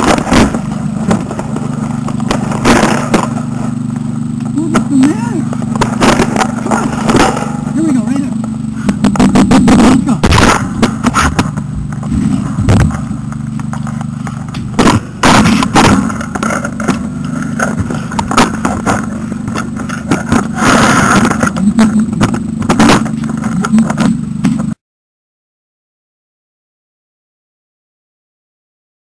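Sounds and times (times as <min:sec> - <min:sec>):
engine humming: 0:00.0 - 0:24.8.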